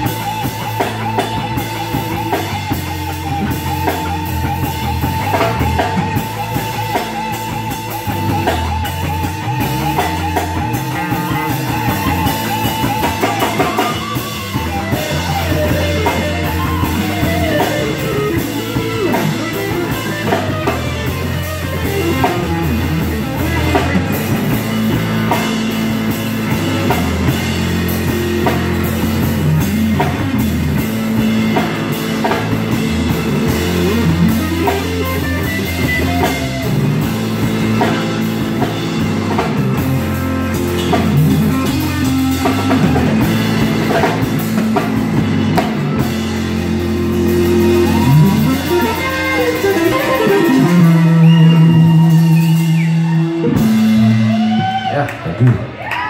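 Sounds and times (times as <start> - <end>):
drum kit: 0.0 - 56.0
electric bass: 0.0 - 56.0
electric guitar lead: 0.0 - 56.0.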